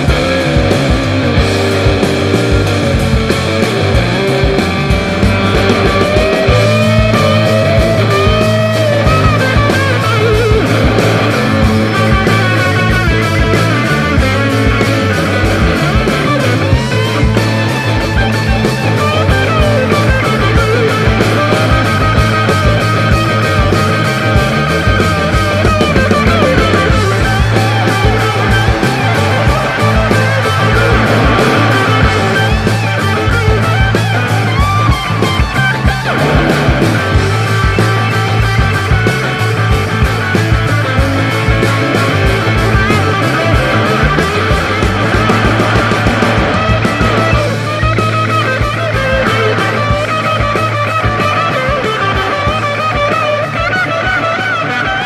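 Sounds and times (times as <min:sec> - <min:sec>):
rock music with guitar and drums: 0:00.0 - 0:55.0.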